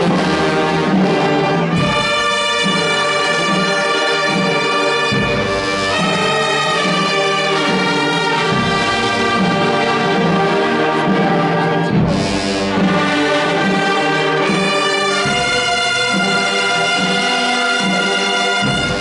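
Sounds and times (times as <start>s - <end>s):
wind band playing chords: 0.0s - 19.0s.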